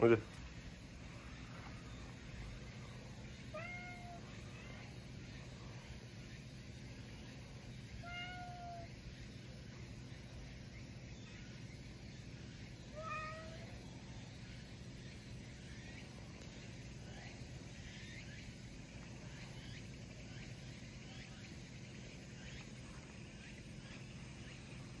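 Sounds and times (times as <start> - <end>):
faint birds chirping: 0.0 - 25.0
steady low hum: 0.0 - 25.0.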